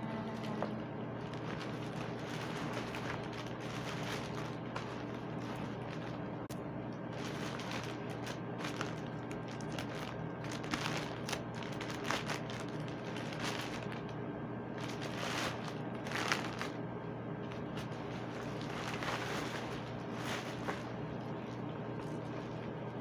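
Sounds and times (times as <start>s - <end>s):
steady low hum: 0.0s - 23.0s
plastic bag crinkling and tearing: 0.4s - 16.8s, 17.4s - 22.9s.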